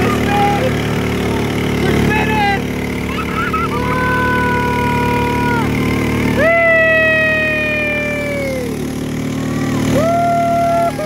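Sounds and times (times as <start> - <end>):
small gasoline engines running: 0.0 - 11.0.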